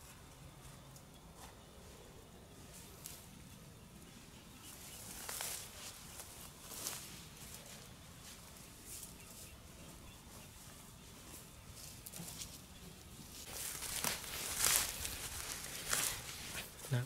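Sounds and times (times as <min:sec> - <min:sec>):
hands rustling soil and dry grass: 0:00.0 - 0:17.0.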